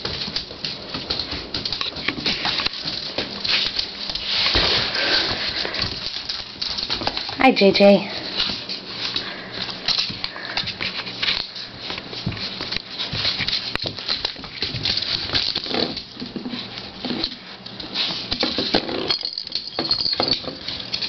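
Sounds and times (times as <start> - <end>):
puppy claws scrabbling on tiles: 0.0 - 21.0.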